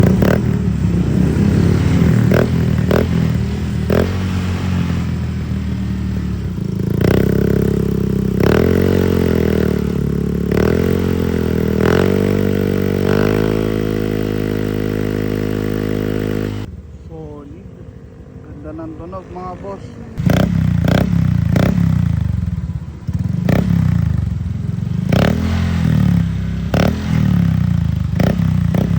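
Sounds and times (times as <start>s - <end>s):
scooter engine idling and revving: 0.0s - 28.9s.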